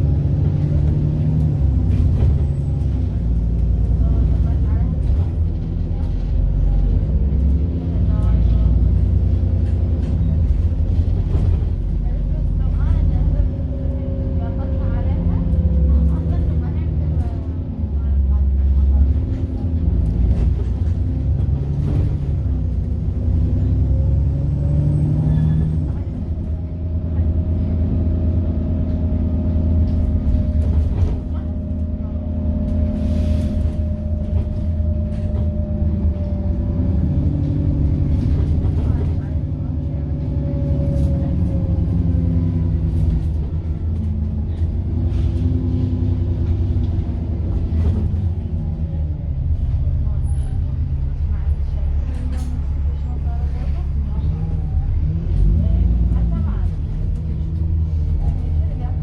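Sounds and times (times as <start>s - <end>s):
diesel bus engine drone: 0.0s - 59.0s.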